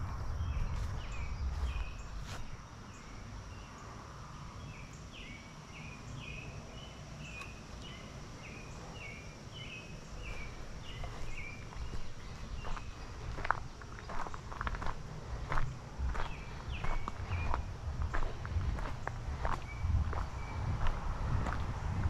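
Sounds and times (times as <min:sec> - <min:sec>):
low wind rumble: 0:00.0 - 0:22.0.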